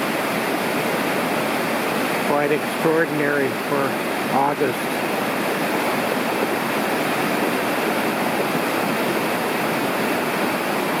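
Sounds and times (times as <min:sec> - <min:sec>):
creek water roaring: 0:00.0 - 0:11.0.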